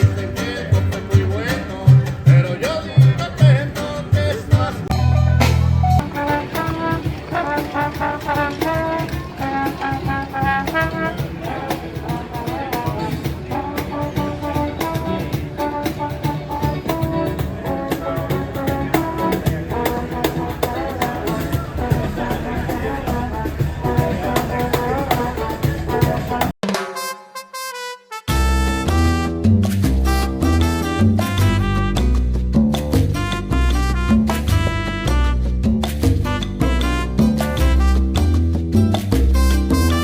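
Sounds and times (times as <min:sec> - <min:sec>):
drums and bass: 0:00.0 - 0:27.0, 0:28.3 - 0:40.0
brass horns playing: 0:04.8 - 0:32.4, 0:33.1 - 0:38.7, 0:39.3 - 0:40.0.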